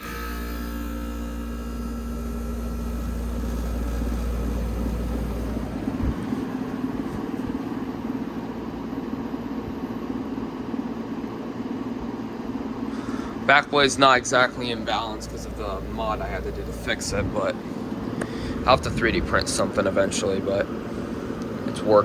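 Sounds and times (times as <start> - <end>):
air conditioner humming: 0.0 - 22.0
fan blade rattling: 2.0 - 22.0.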